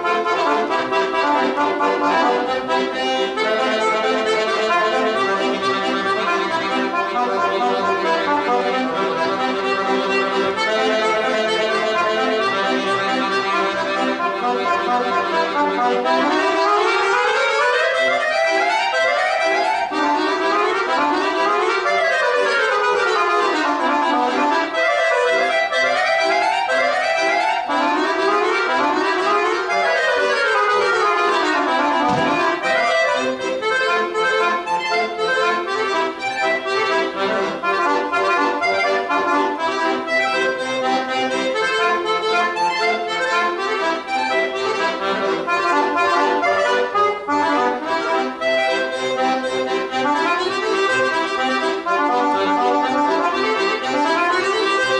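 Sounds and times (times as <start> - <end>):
accordion playing: 0.0 - 54.9.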